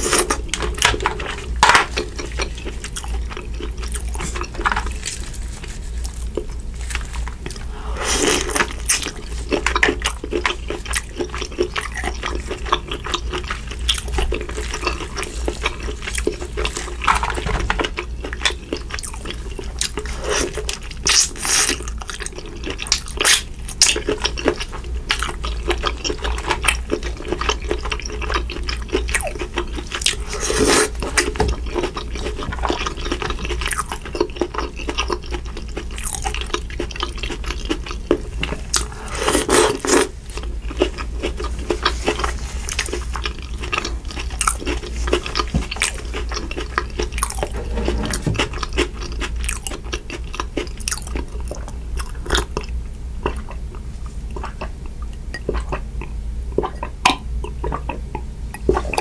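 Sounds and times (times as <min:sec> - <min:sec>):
wet chewing and lip smacking: 0:00.0 - 0:17.1, 0:17.8 - 0:47.5, 0:48.4 - 0:59.0
steady low hum: 0:00.0 - 0:59.0.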